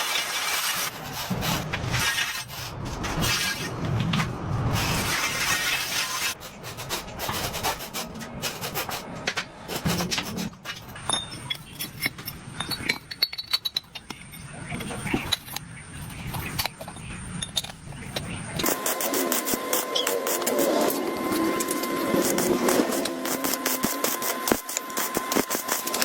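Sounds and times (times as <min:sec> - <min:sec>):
hand tools scraping material: 0:00.0 - 0:13.6, 0:17.6 - 0:26.0.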